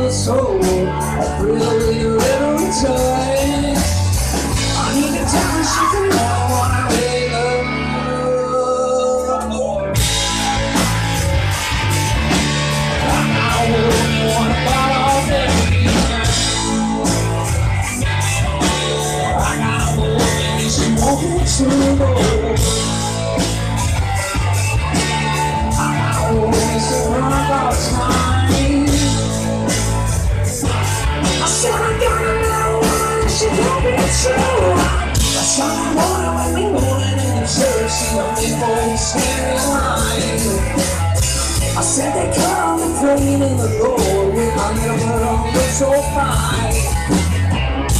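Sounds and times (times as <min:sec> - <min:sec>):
drums and cymbals: 0:00.0 - 0:08.1, 0:09.2 - 0:47.9
bass guitar: 0:00.0 - 0:47.9
electric guitars: 0:00.0 - 0:47.9.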